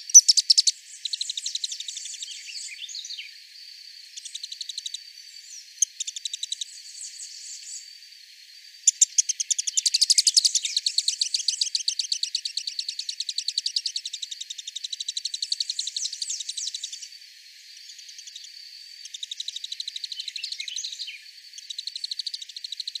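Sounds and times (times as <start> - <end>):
faint insect chirps: 0.0 - 23.0
insects calling in fast pulses: 0.0 - 23.0.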